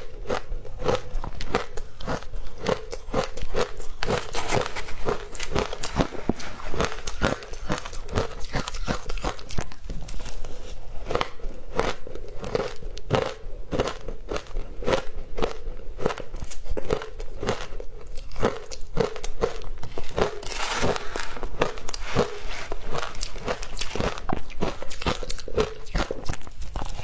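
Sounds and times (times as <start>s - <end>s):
person chewing crunchy ice: 0.0s - 27.0s.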